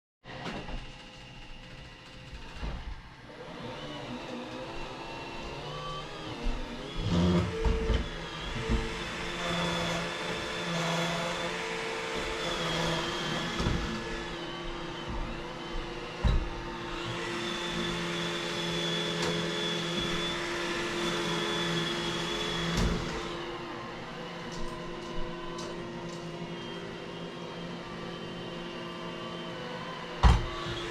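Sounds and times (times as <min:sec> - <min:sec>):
vacuum cleaner running: 0:00.3 - 0:30.9.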